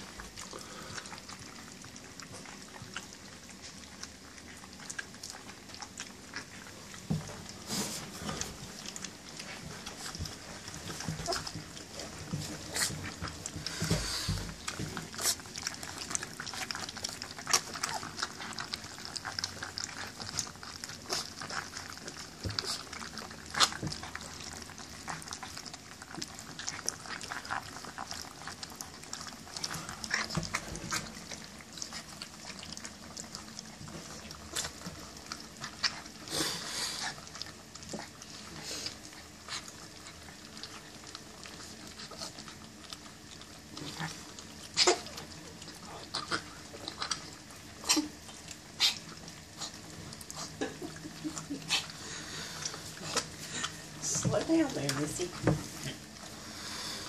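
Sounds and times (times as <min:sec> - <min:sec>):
puppies eating kibble from metal pan: 0:00.0 - 0:57.0.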